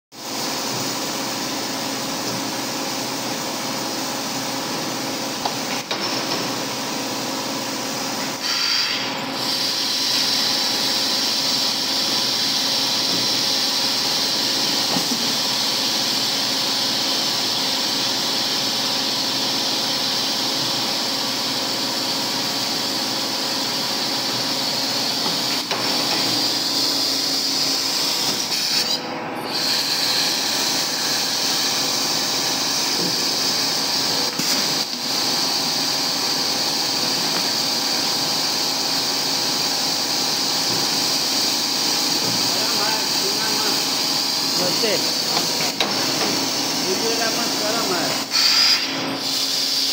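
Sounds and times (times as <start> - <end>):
machine mechanical hum: 0.2 - 49.9.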